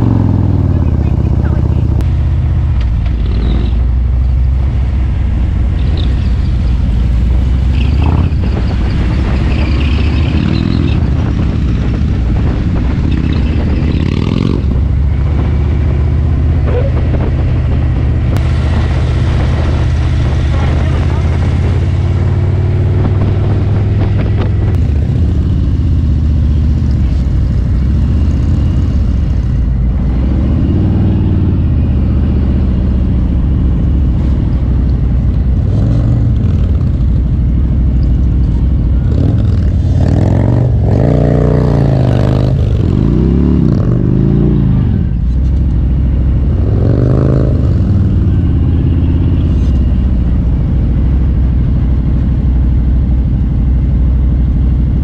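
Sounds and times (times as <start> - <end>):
motorcycle engine revving: 0.0 - 53.5.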